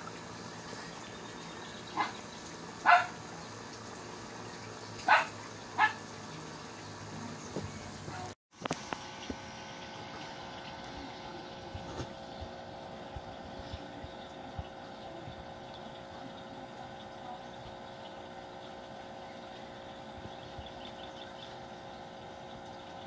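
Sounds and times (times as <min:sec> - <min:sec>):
filter pump humming: 0:00.0 - 0:23.0.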